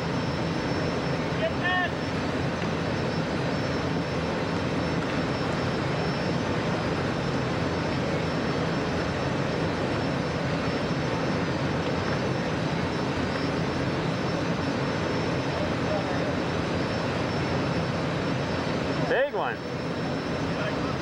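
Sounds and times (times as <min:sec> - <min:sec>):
broad rushing noise: 0:00.0 - 0:21.0
steady engine drone: 0:00.0 - 0:21.0.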